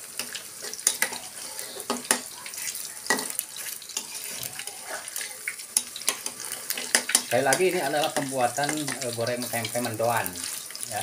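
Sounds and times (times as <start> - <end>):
spatula scraping a wok: 0.0 - 10.9
food deep-frying in hot oil: 0.0 - 11.0.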